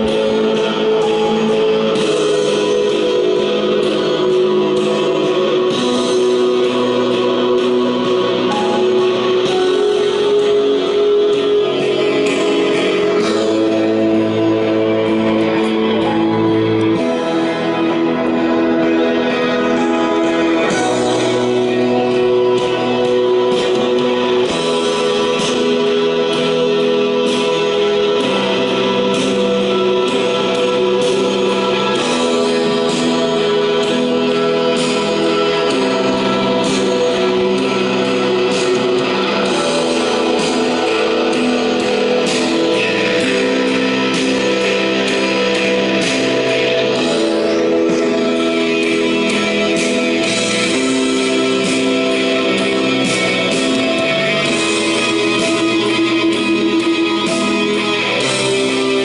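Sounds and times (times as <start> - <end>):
guitar song with singing over speakers: 0.0 - 59.0.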